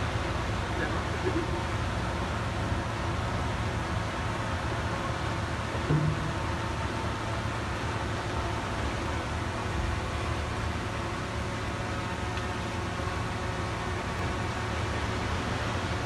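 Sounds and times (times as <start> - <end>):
heavy machine diesel engine droning: 0.0 - 16.0.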